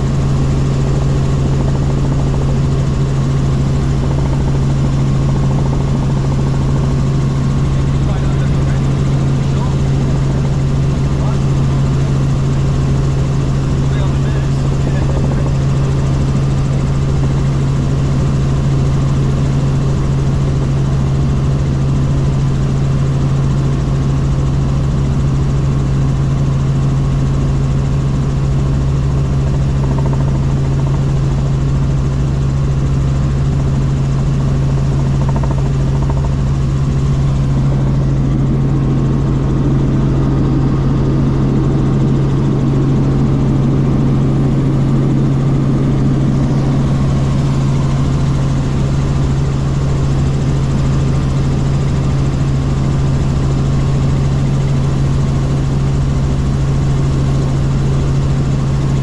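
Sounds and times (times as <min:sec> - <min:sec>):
helicopter rotor drone: 0:00.0 - 0:59.0.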